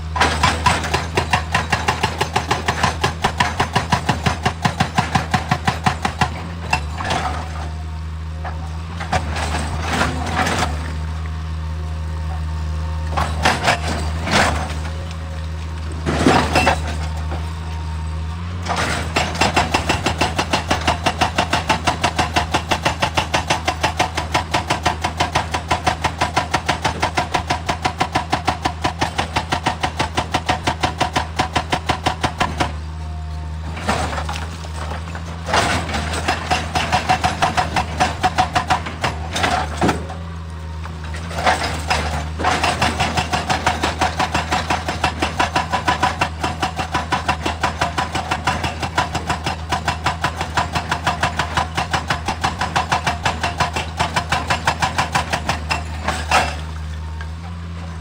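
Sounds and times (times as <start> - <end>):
hydraulic rock breaker hammering: 0.0 - 11.3, 12.2 - 58.0
excavator diesel engine running: 0.0 - 58.0.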